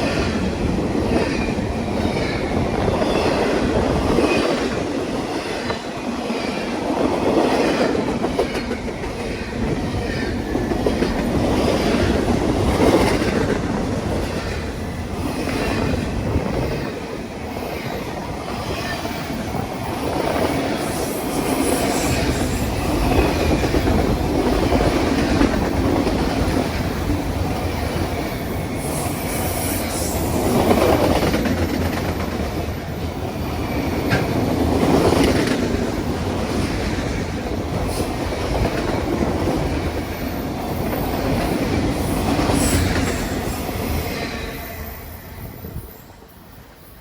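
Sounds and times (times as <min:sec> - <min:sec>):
clickety-clack over rail joints: 0:00.0 - 0:44.8
train wheels rumbling on rail: 0:00.0 - 0:47.0.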